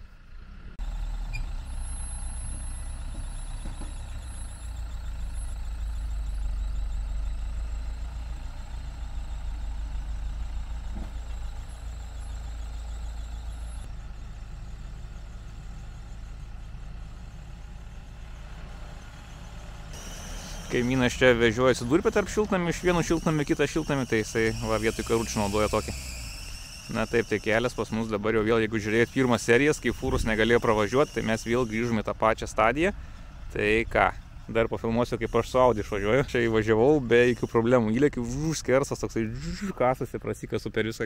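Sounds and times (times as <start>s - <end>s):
vehicle engine running hard: 0.0s - 40.2s.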